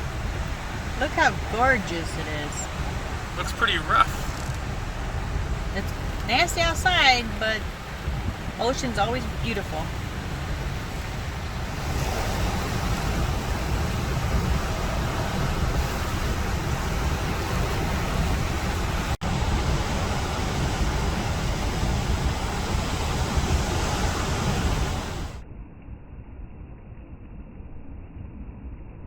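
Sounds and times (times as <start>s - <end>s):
gusty wind buffeting microphone: 0.0s - 25.4s
ocean surf: 0.0s - 25.4s.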